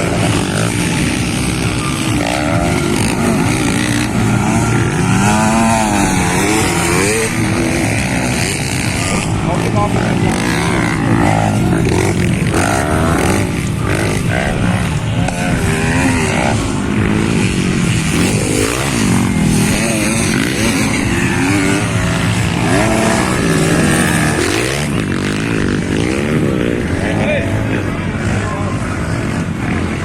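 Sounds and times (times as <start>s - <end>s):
motocross bikes revving: 0.0s - 30.0s.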